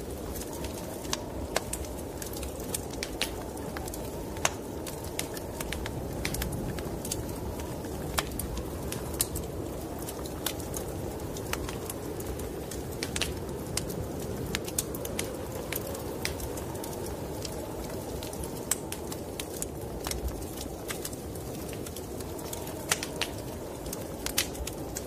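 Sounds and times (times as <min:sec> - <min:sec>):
snowstorm wind rushing: 0:00.0 - 0:25.0
wood fire crackling and popping: 0:00.0 - 0:25.0.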